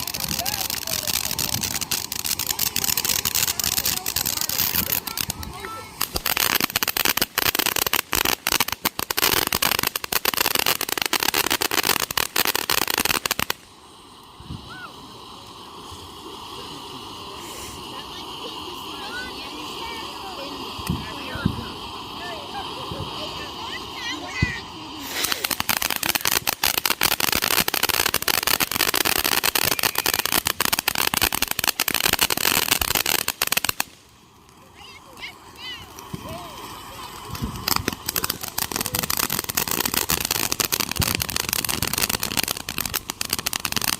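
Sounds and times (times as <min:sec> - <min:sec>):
continuous hiss: 0:00.0 - 0:43.9
fireworks cracking and popping: 0:00.0 - 0:43.9.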